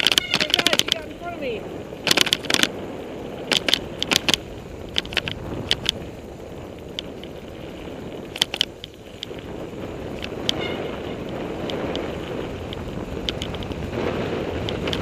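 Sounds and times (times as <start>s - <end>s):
bike clattering over bumps: 0.0s - 15.0s
rumble of tyres and wind: 0.0s - 15.0s.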